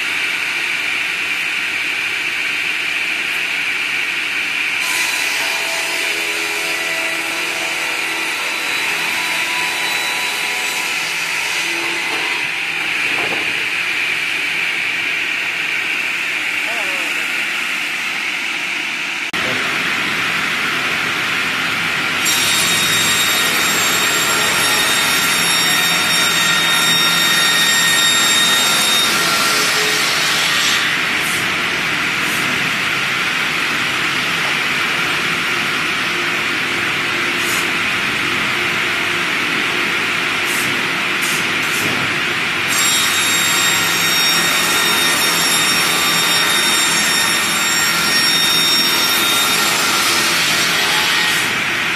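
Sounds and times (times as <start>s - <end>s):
circular saw cutting log: 2.9s - 14.9s, 22.0s - 51.9s.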